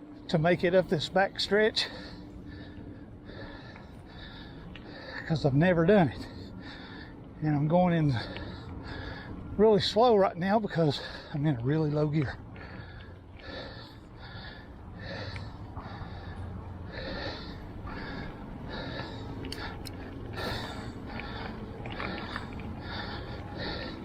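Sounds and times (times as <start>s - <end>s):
person panting hard: 1.7s - 7.4s, 8.1s - 9.6s, 10.7s - 24.0s.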